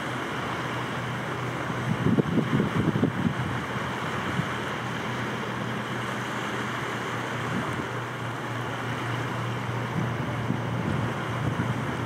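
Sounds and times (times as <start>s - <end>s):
choppy water: 0.0s - 12.0s
wind: 0.0s - 12.0s.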